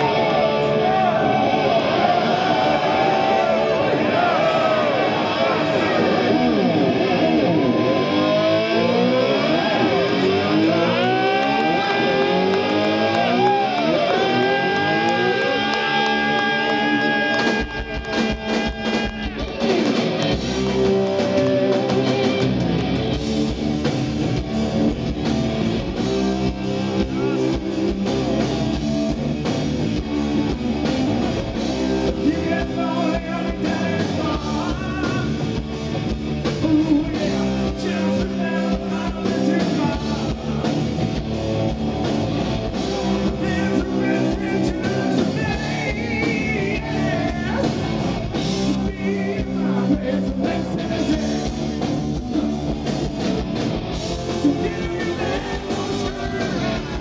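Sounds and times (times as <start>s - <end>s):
drum kit: 0.0s - 57.0s
electric guitar: 0.0s - 57.0s.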